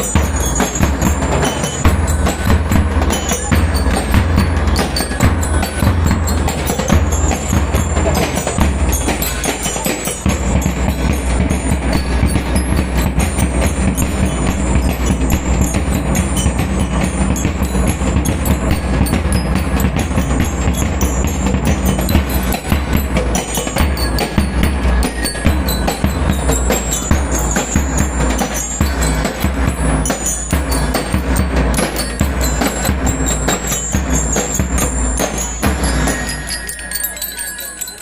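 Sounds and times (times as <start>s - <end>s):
marching snare drums: 0.0s - 36.6s
heavy bass drum beat: 0.0s - 36.9s
bell lyres playing a melody: 0.0s - 38.0s.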